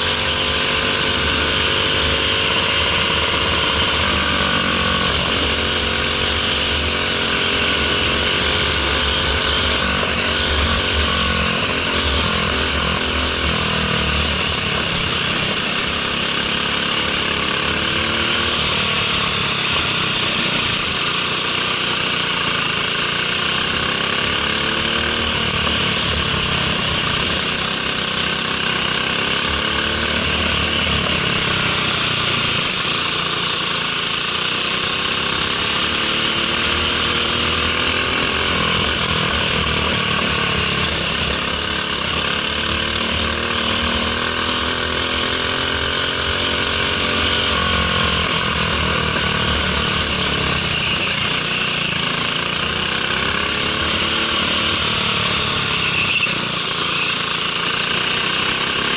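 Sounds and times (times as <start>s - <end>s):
kart engine at race pace: 0.0s - 58.9s.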